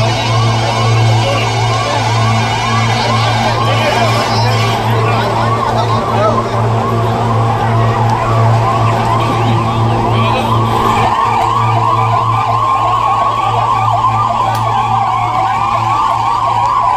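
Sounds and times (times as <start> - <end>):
steady low hum: 0.0 - 15.2
sirens wailing: 0.0 - 16.9.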